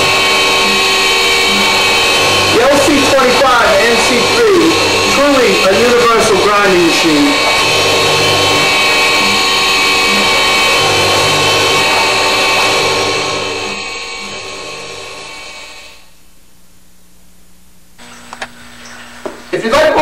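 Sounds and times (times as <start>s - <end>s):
grinding wheel whine: 0.0s - 16.2s, 18.0s - 20.0s.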